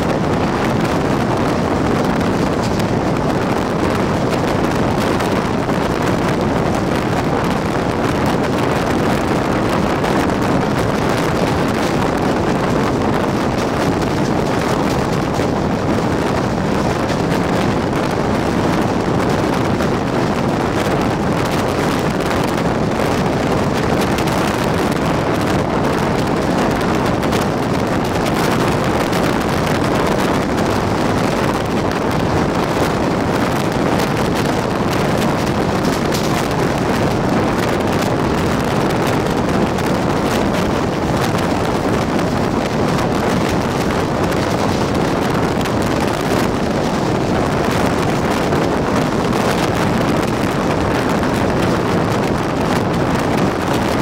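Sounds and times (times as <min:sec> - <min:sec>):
train running at speed: 0:00.0 - 0:54.0
wind blowing on microphone: 0:00.0 - 0:54.0.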